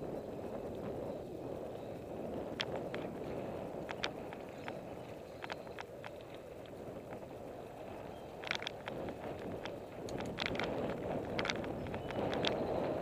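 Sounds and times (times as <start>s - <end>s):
bike clicking and clattering: 0.0s - 13.0s
tyre and wind noise: 0.0s - 13.0s.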